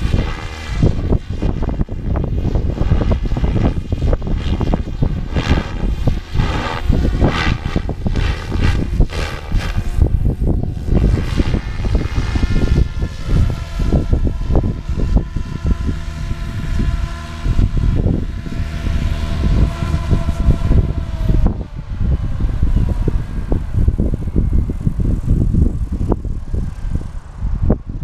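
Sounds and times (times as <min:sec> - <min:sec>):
rc helicopter rotor whine: 0:00.0 - 0:28.0
wind buffeting microphone: 0:00.0 - 0:28.0.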